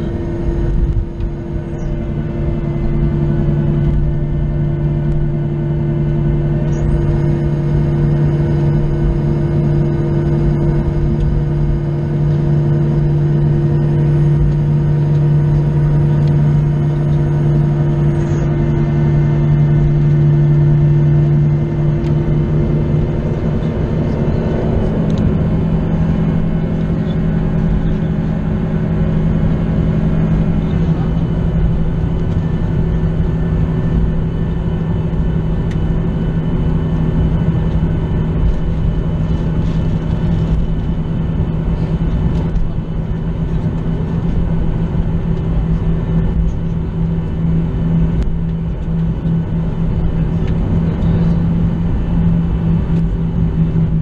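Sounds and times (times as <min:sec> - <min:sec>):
high engine whine: 0:00.0 - 0:54.0
jet engines hum and rush: 0:00.0 - 0:54.0.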